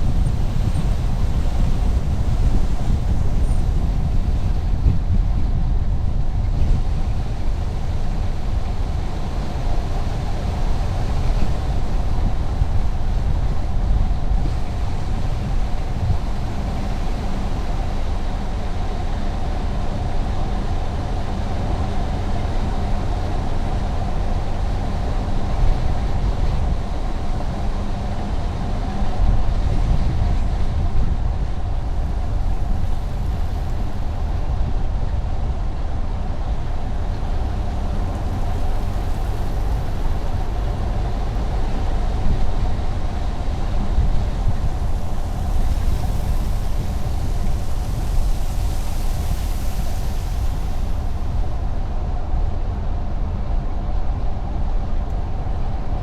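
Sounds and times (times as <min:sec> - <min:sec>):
car tyre and engine rumble: 0:00.0 - 0:56.0.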